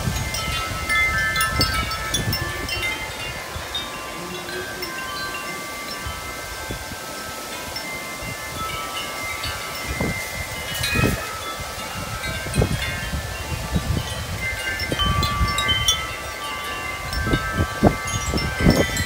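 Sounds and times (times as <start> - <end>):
wind chimes ringing: 0.0 - 19.0
wind gusts buffeting microphone: 0.0 - 19.0.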